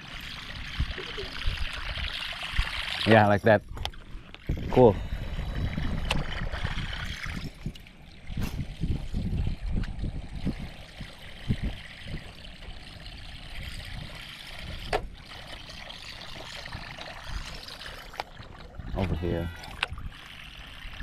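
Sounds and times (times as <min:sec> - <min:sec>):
water lapping and trickling: 0:00.0 - 0:21.0.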